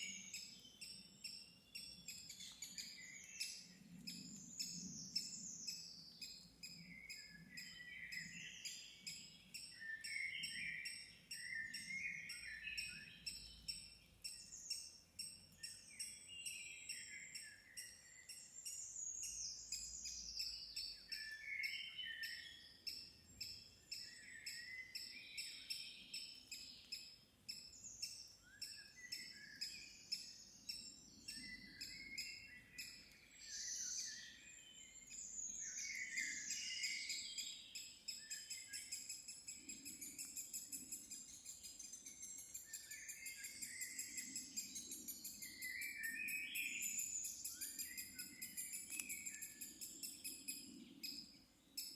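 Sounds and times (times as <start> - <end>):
songbirds singing: 0.0 - 51.9.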